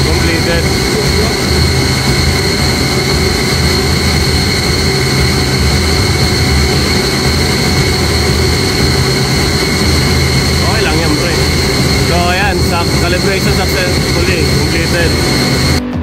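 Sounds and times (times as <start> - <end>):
high steady whine: 0.0 - 16.0
machinery low hum: 0.0 - 16.0.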